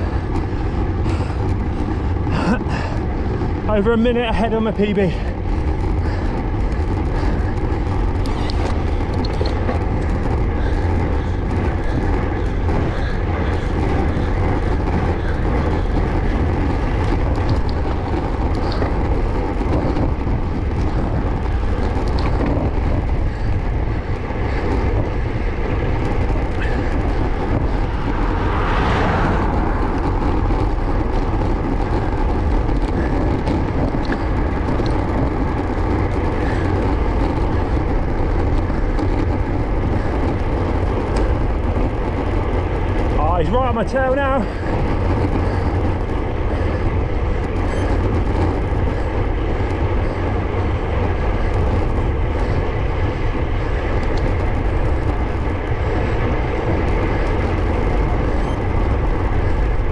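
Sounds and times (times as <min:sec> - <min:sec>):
bicycle tyres hissing on tarmac: 0:00.0 - 0:59.9
wind buffeting microphone: 0:00.0 - 0:59.9.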